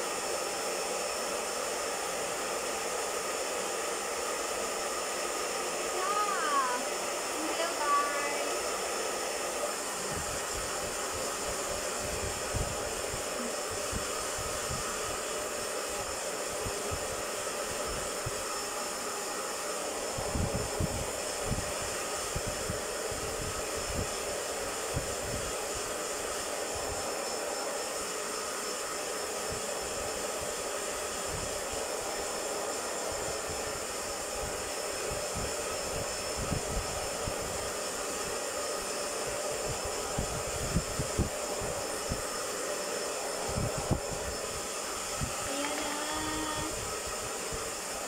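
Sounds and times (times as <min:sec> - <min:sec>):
hair dryer running: 0:00.0 - 0:48.0.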